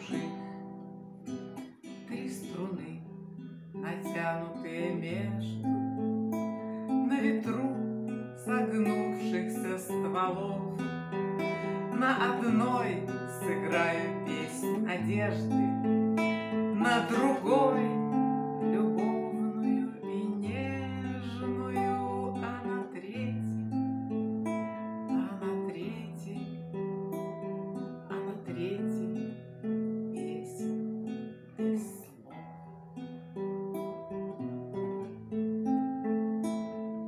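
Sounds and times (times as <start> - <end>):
acoustic guitar picking and strumming: 0.0 - 37.0.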